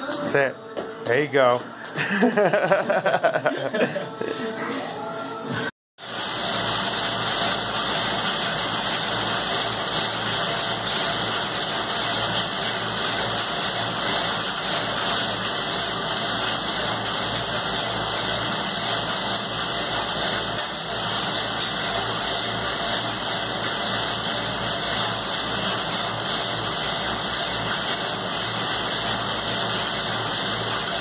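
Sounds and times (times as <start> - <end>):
exercise machine flywheel whirring: 5.6 - 31.0.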